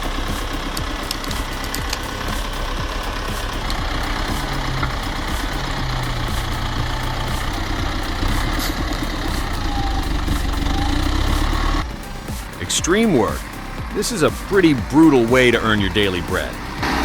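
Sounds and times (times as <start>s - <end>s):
dense mechanical din: 0.0s - 17.0s
heavy engine running: 0.0s - 17.0s.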